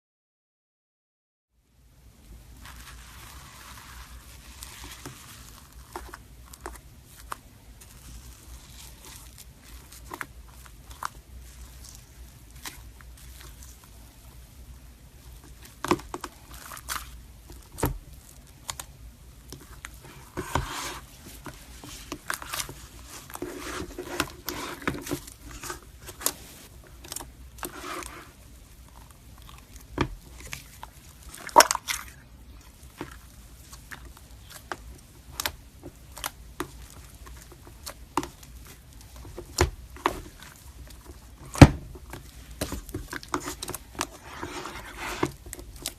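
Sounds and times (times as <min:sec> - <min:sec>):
wet slime squishing: 0:02.4 - 0:45.9.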